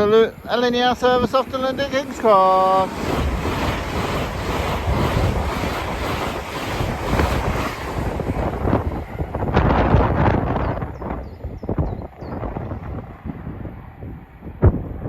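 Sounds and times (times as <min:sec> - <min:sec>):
train passing at speed: 0:00.0 - 0:15.0
wind buffeting microphone: 0:00.0 - 0:15.0.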